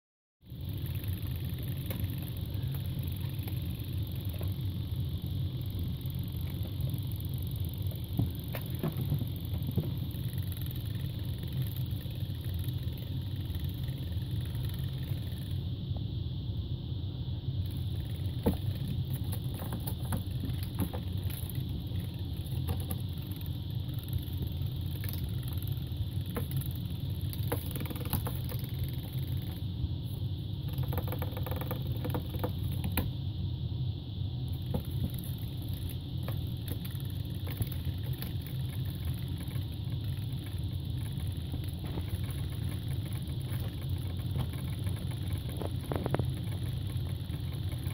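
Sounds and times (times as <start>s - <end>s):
low mechanical hum: 0.4s - 47.9s.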